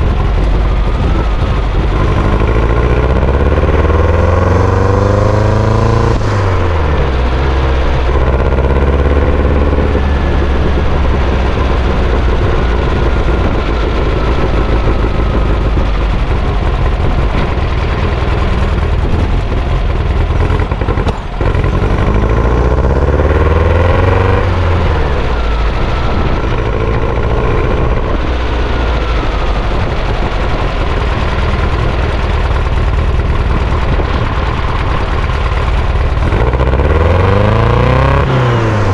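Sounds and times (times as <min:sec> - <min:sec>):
buggy engine revving: 0:00.0 - 0:38.9.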